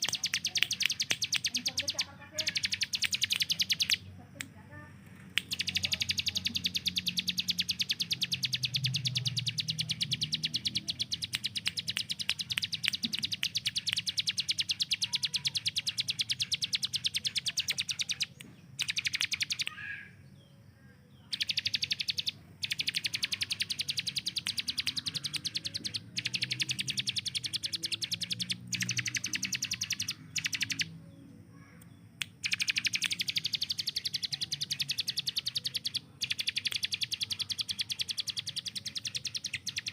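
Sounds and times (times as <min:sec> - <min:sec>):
prinia singing rapid sharp notes: 0:00.0 - 0:04.7, 0:05.3 - 0:39.9
faint low hum: 0:00.0 - 0:39.9.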